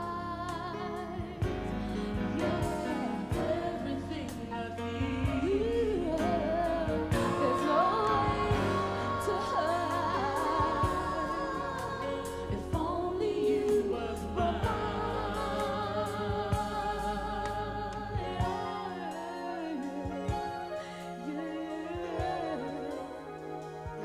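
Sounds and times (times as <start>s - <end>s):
woman singing soul ballad: 0.0s - 24.0s.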